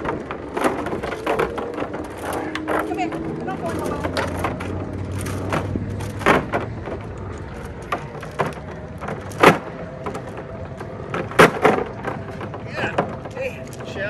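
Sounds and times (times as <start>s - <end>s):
anchor chain clanking: 0.0s - 14.0s.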